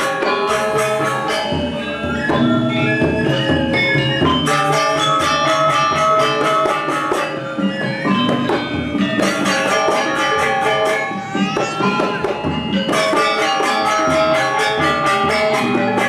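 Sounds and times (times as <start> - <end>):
drums: 0.0 - 16.0
metallophones ringing: 0.0 - 16.0.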